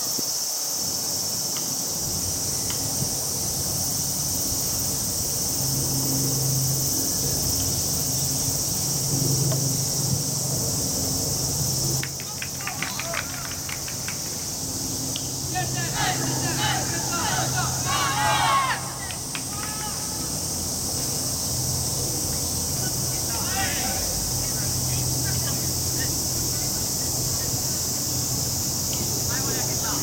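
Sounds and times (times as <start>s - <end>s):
cicadas shrilling: 0.0s - 30.0s.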